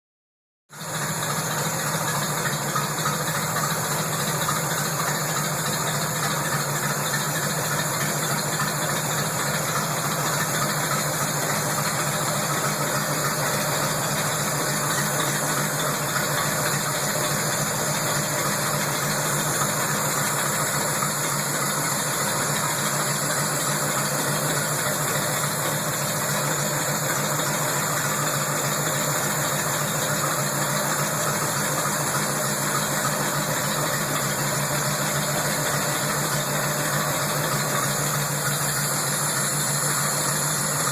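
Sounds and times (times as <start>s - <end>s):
car engine running: 0.7s - 40.9s.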